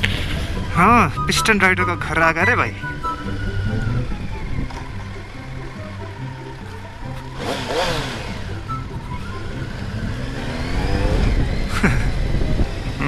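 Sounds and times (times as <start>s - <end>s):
background music: 0.0s - 13.0s
motorcycle engine revving: 0.0s - 13.0s.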